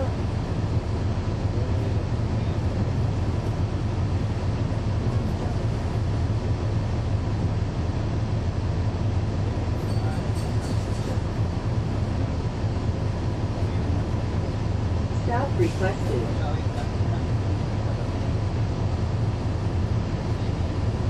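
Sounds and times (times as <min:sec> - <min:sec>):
bus diesel engine and road drone: 0:00.0 - 0:21.0.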